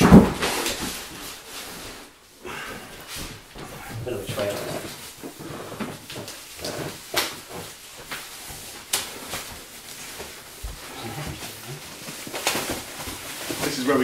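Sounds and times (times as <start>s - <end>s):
plastic packing rustling and crinkling: 0.0s - 14.0s.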